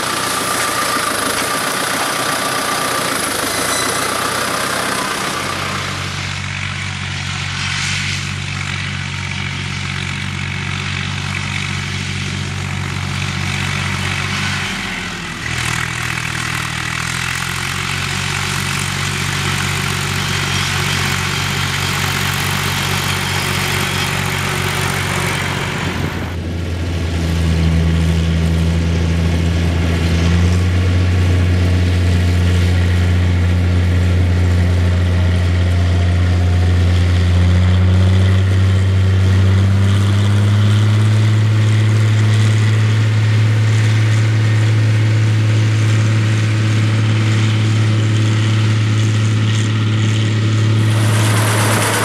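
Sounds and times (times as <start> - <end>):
combine harvester engine: 0.0 - 52.0
tractor engine running: 0.0 - 52.0.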